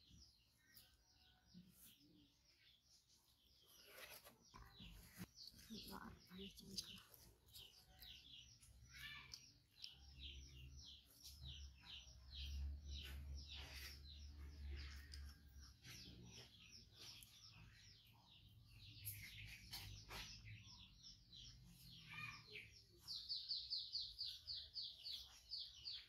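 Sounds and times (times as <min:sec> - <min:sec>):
faint small birds chirping: 0:00.0 - 0:26.0.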